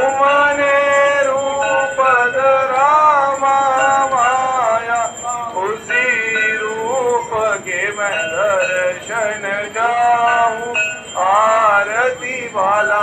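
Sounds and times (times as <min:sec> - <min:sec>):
bells jingling: 0:00.0 - 0:13.0
person singing a hymn: 0:00.0 - 0:13.0.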